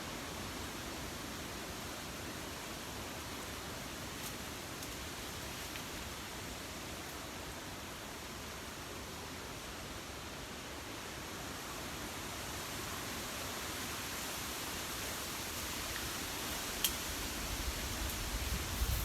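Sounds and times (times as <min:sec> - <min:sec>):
strong wind through trees: 0:00.0 - 0:19.0.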